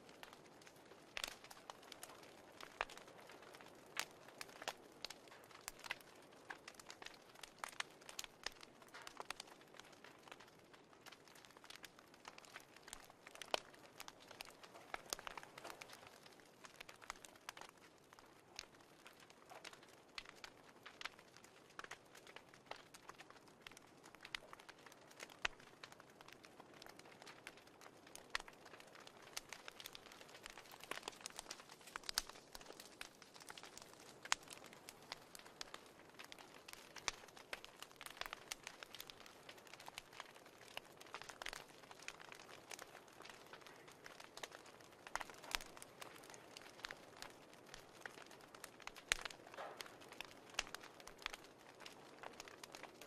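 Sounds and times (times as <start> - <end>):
fireplace crackling: 0.0 - 53.0
low steady hiss: 0.0 - 53.0.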